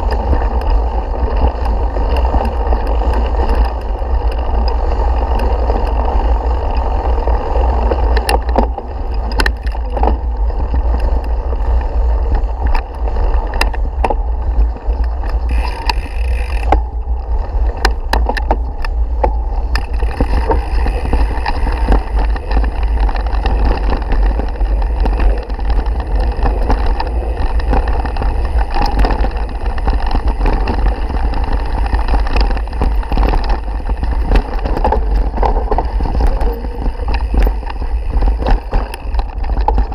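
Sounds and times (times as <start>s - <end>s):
bike clicking and rattling: 0.0s - 39.9s
wind and ride vibration rumble: 0.0s - 39.9s.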